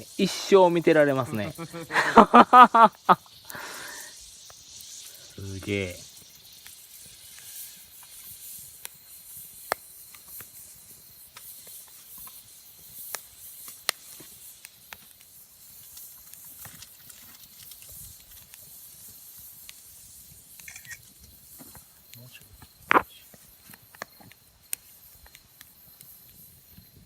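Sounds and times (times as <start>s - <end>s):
campfire hissing: 0.0s - 27.0s
fire crackles and pops: 0.0s - 27.0s.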